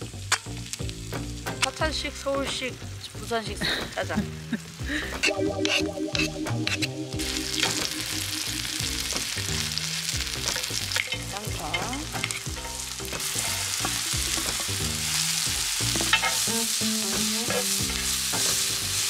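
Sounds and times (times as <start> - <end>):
vegetables sizzling in hot oil: 0.0 - 5.4, 6.7 - 19.0.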